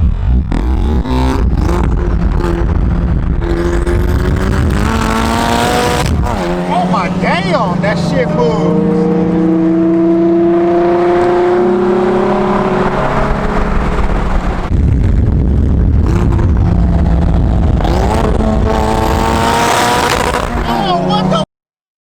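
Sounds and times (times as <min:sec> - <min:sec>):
car engine accelerating: 0:00.0 - 0:21.5.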